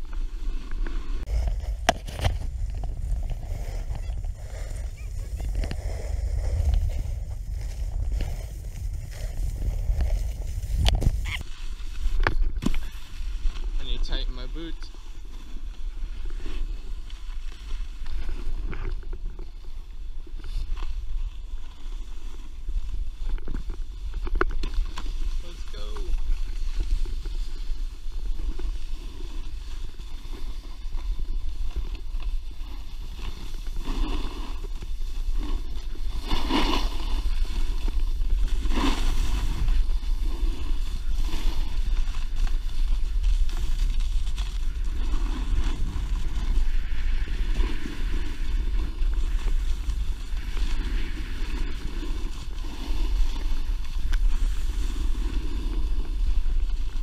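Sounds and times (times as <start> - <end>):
snowboard edges scraping snow: 0.0 - 57.0
wind rumble on microphone: 0.0 - 57.0.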